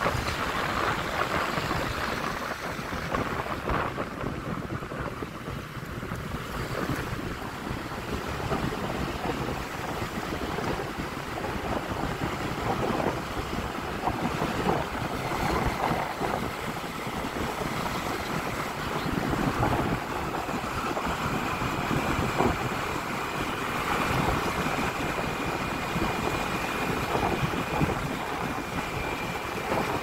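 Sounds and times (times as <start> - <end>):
scooter engine and road noise: 0.0 - 30.0
wind buffeting microphone: 0.0 - 30.0.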